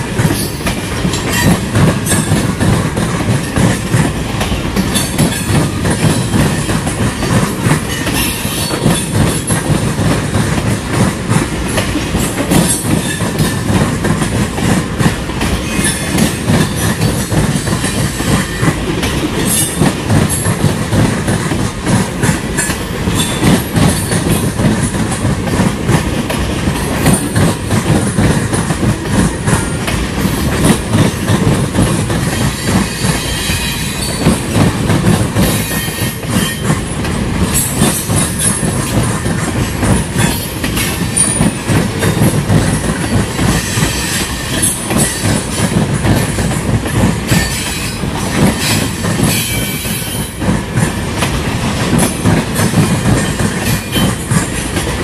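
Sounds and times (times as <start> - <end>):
train wheels rumbling on rail: 0.0 - 55.0
wheels clacking over rail joints: 0.0 - 55.0.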